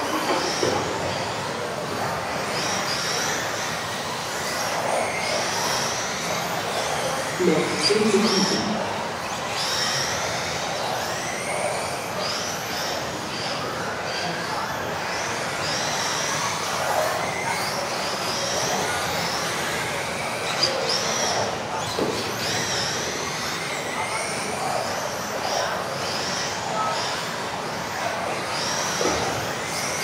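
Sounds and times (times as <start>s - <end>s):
rc car motors whining: 0.0s - 30.0s.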